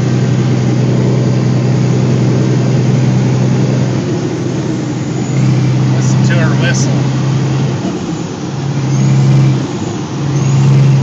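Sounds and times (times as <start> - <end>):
truck diesel engine under load: 0.0 - 11.0.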